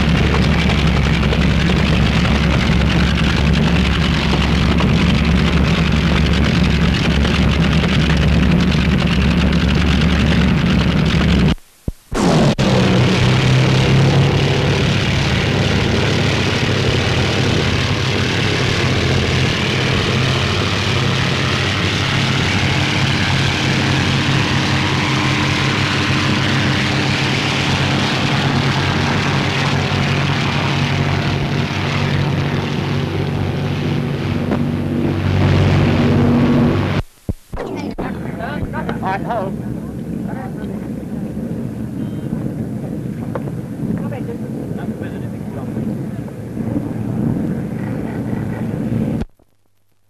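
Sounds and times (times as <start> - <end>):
propeller engine droning: 0.0 - 49.6.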